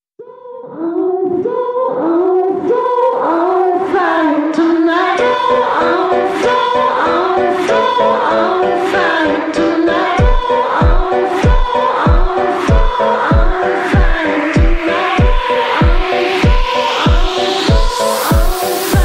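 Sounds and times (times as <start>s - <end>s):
song with sung melody: 0.2s - 19.0s.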